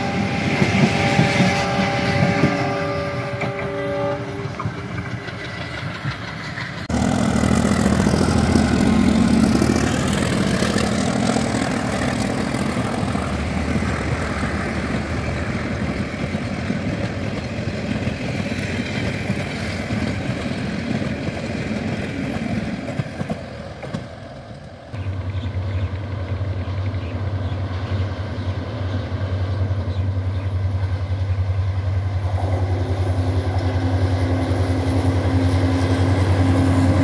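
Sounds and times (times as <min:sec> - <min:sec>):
train rolling along rails: 0:00.0 - 0:37.0.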